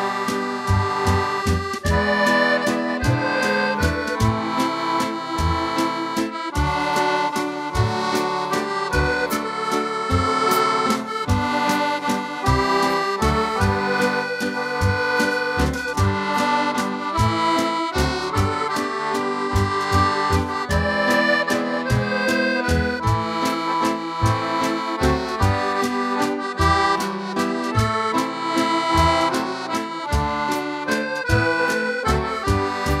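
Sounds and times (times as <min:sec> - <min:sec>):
accordion playing a folk tune: 0:00.0 - 0:33.0.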